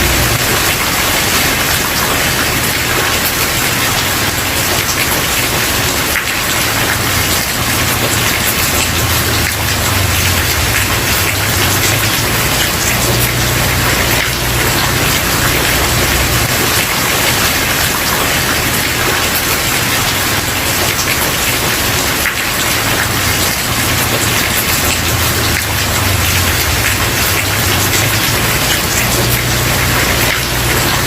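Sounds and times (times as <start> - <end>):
rain pattering on wooden porch: 0.0 - 31.0.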